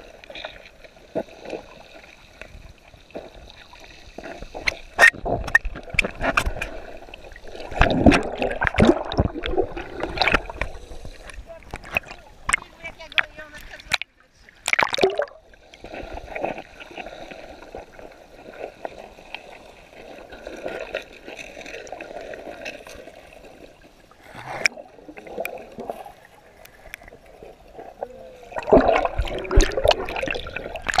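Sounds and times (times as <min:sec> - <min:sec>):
muffled underwater water sloshing: 0:00.0 - 0:31.0
water splashing: 0:00.0 - 0:31.0.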